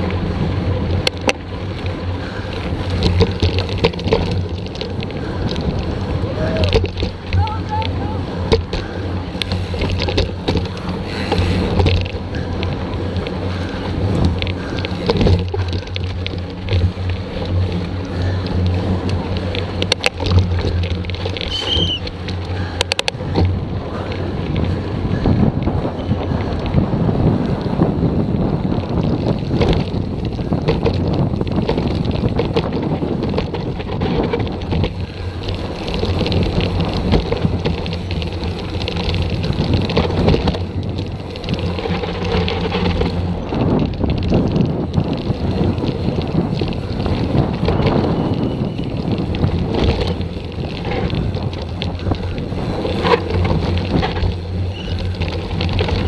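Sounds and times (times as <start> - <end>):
bike clattering over bumps: 0.0 - 56.0
bike tyres crunching on gravel: 0.0 - 56.0
wind rushing over microphone: 0.0 - 56.0.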